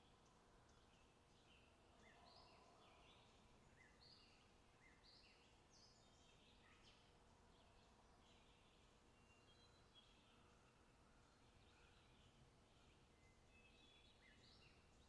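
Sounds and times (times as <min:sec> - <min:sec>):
low background hiss: 0:00.0 - 0:15.0.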